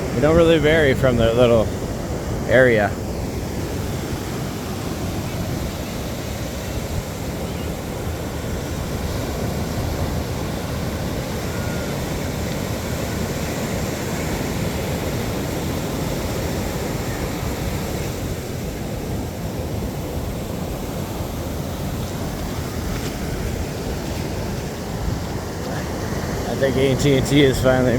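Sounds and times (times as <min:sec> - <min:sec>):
ocean surf washing: 0:00.0 - 0:27.9
wind buffeting microphone: 0:00.0 - 0:27.9.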